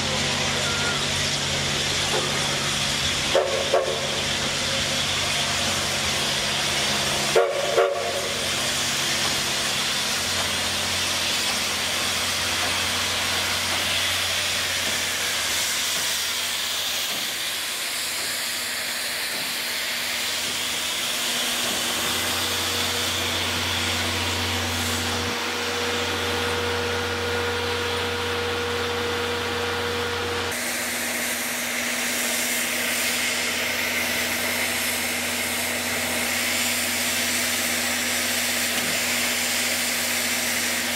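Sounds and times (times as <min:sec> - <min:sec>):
steam locomotive hissing steam: 0:00.0 - 0:40.9.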